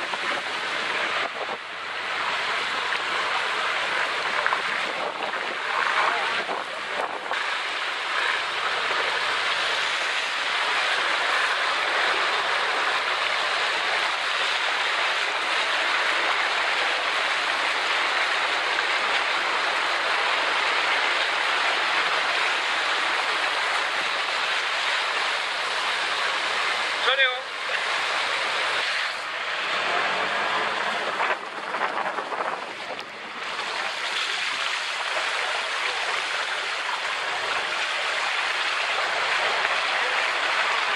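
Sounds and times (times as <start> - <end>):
water spraying from scooter wheels: 0.0 - 40.9.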